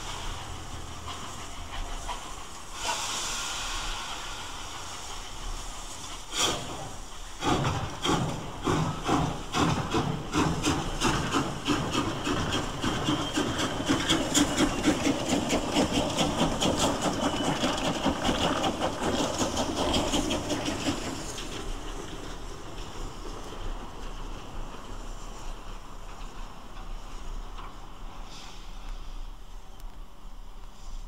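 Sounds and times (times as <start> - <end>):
steam locomotive chuffing: 0.0 - 29.7
steam hissing: 0.0 - 31.0.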